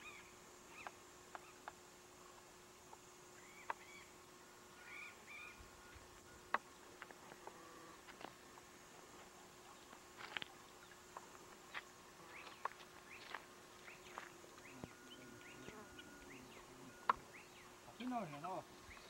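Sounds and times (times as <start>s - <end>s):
faint steady hum and hiss: 0.0s - 19.0s.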